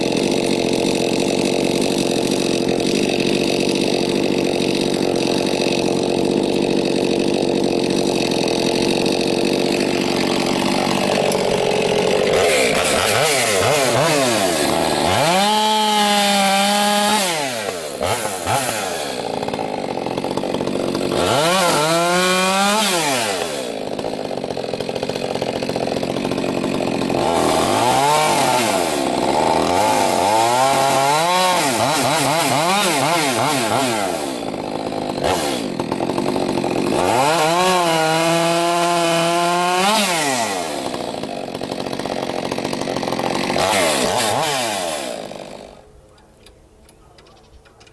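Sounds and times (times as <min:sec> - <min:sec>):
chainsaw cutting and revving: 0:00.0 - 0:46.6.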